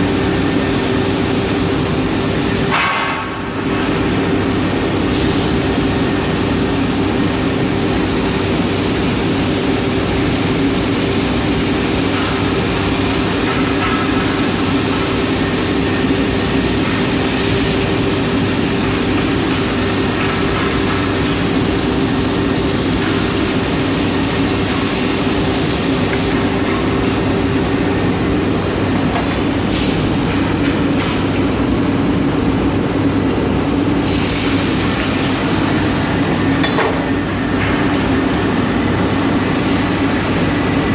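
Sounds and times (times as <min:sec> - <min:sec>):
industrial machinery running: 0:00.0 - 0:40.9.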